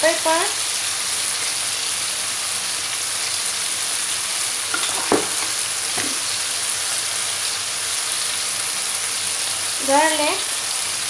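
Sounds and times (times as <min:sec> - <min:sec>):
tomatoes sizzling in wok: 0:00.0 - 0:11.0.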